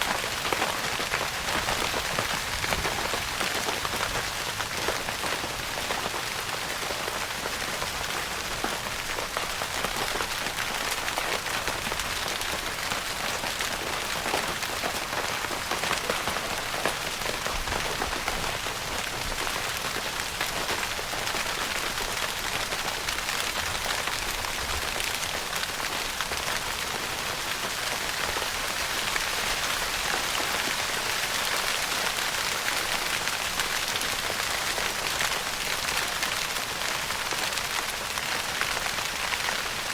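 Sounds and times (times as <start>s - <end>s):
rain pattering on a tent roof: 0.0s - 39.9s.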